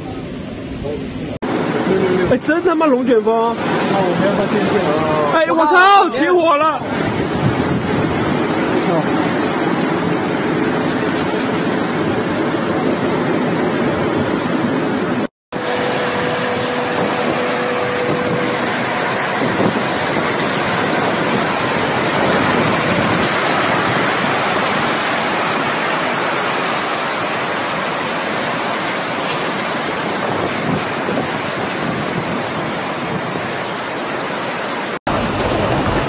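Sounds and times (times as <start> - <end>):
wind blowing across microphone: 0.0 - 36.0.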